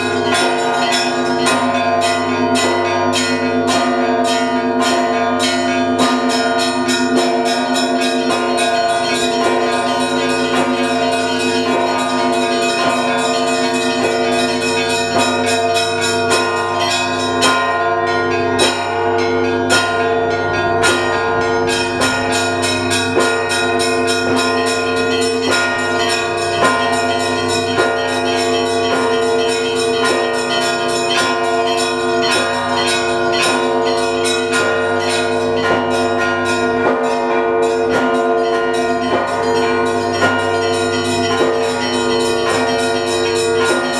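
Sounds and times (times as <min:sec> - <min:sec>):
large bells ringing: 0:00.0 - 0:43.9
small bells struck rapidly: 0:00.0 - 0:43.9.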